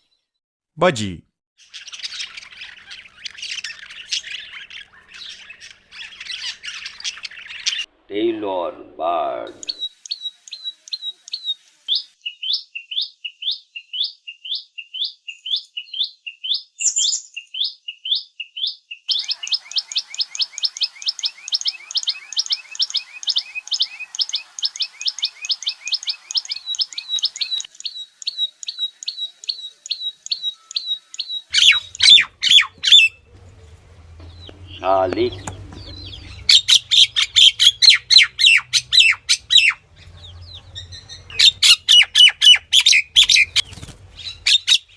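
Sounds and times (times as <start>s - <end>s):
bird chirping: 1.6s - 44.9s
harsh bird calls: 1.6s - 44.9s.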